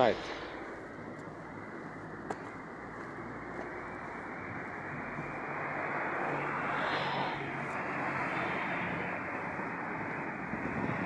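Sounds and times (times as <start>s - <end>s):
vehicle engine hum and tyre noise: 0.0s - 11.0s.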